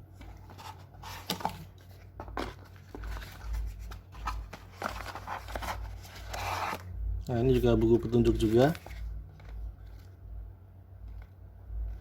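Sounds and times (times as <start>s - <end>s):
steady low hum: 0.0s - 12.0s
paper and packaging rustling: 0.1s - 10.2s.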